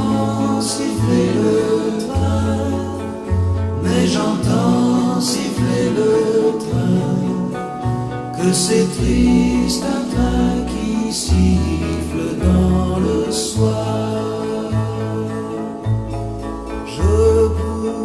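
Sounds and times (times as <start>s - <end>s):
man singing pop song: 0.0s - 15.8s, 16.9s - 18.0s
bass line: 0.0s - 18.0s.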